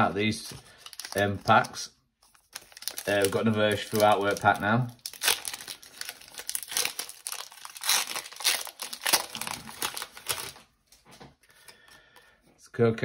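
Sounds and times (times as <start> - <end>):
foil wrapper crinkling and tearing: 0.2 - 10.7.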